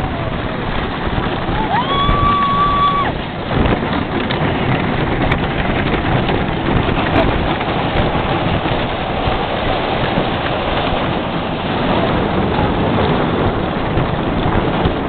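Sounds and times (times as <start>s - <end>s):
roller coaster track noise: 0.0s - 15.0s
wind on microphone: 0.0s - 15.0s.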